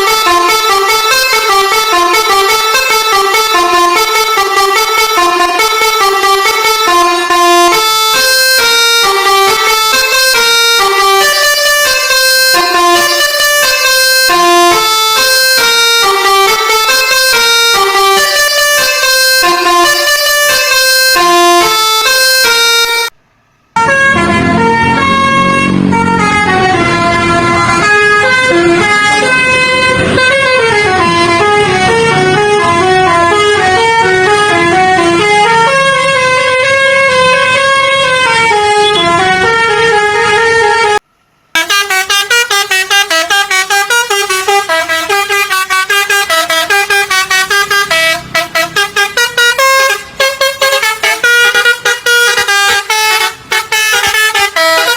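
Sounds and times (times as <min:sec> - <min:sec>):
musical air horn playing tunes: 0:00.0 - 0:23.2, 0:23.8 - 0:41.0, 0:41.6 - 0:54.9.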